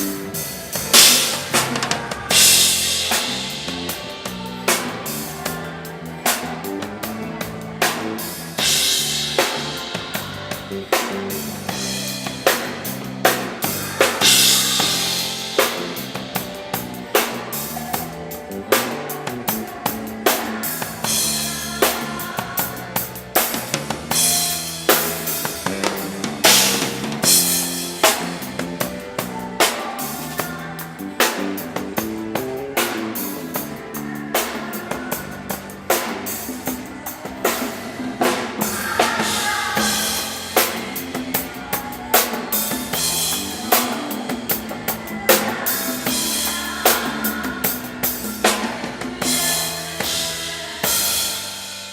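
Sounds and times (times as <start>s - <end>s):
band playing: 0.0s - 51.9s
drum kit beat: 0.0s - 51.9s.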